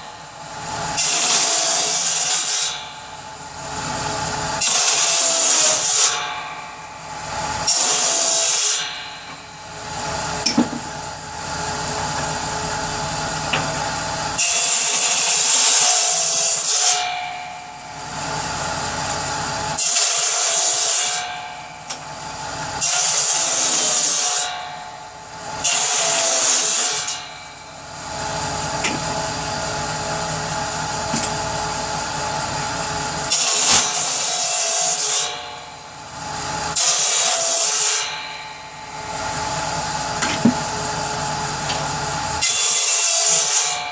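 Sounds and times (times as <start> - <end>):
power saw cutting wood: 0.0 - 43.9.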